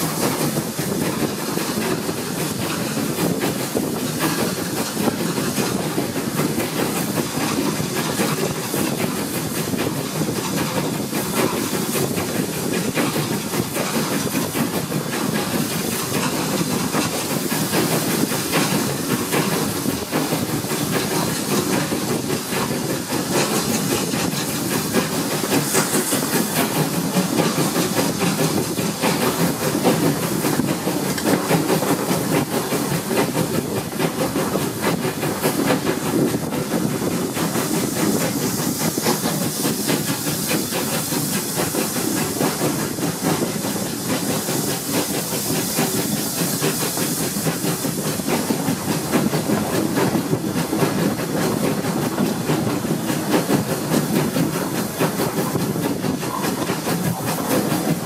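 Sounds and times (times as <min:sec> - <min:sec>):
steam locomotive hissing: 0:00.0 - 0:58.0
wheels on rails: 0:00.0 - 0:58.0.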